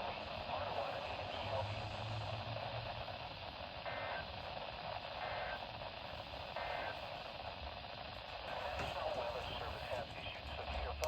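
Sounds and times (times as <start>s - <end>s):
radio static hiss: 0.0s - 10.8s.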